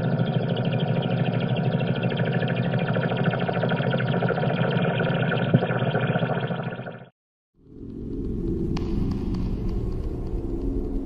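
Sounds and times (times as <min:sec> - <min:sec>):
dense fluttering drone: 0:00.0 - 0:11.0.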